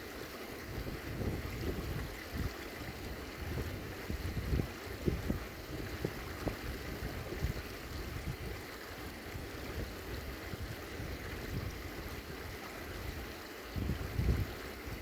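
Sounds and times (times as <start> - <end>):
wind buffeting microphone: 0.7 - 8.6, 9.3 - 15.0.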